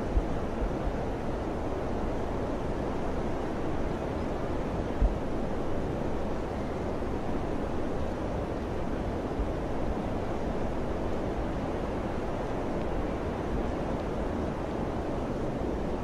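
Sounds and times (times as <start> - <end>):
wind blowing steadily: 0.0 - 16.0.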